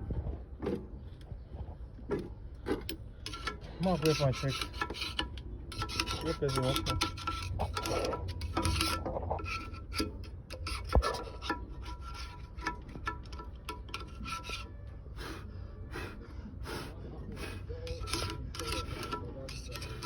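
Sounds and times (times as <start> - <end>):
hand tools scraping and rubbing: 2.7 - 20.0.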